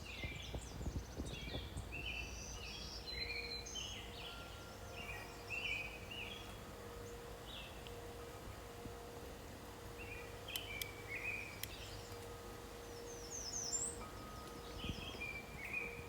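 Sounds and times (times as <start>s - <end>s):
songbirds chirping and singing: 0.0s - 8.0s, 9.7s - 16.0s.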